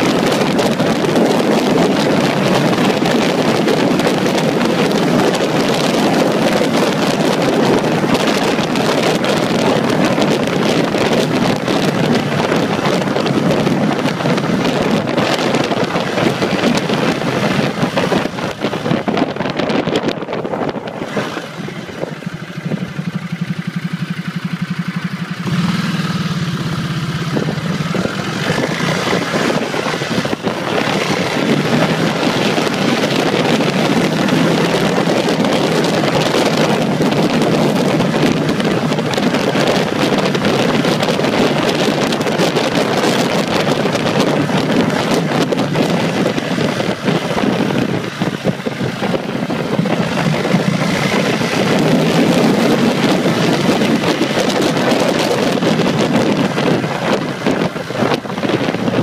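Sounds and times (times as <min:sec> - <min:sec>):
wind buffeting microphone: 0:00.0 - 0:24.7, 0:25.4 - 0:59.0
motorcycle engine accelerating: 0:00.0 - 0:59.0.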